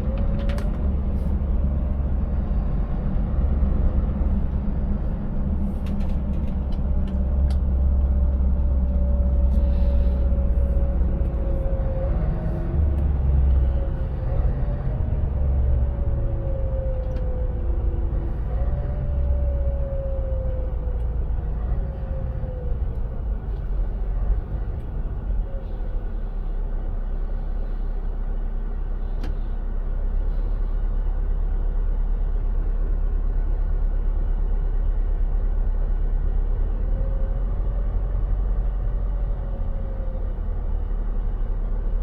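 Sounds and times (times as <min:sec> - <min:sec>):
truck engine rumble: 0:00.0 - 0:42.0.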